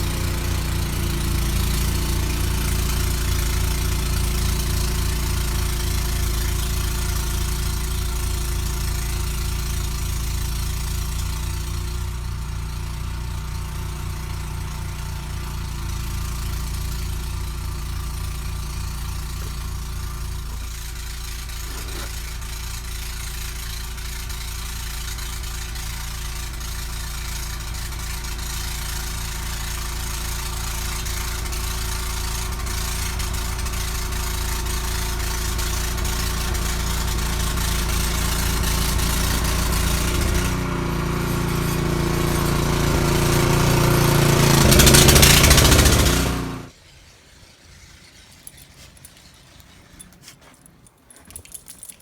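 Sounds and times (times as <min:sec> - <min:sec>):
engine running: 0:00.0 - 0:46.8.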